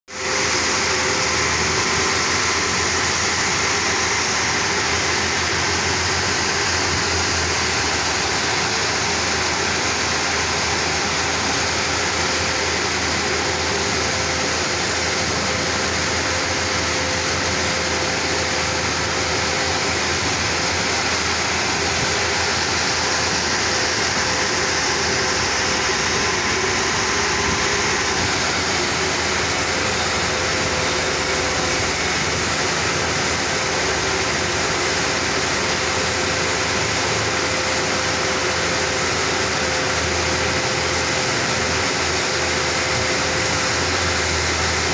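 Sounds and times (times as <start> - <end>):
diesel machinery droning: 0.1 - 44.9
faint steady whine: 0.1 - 44.9.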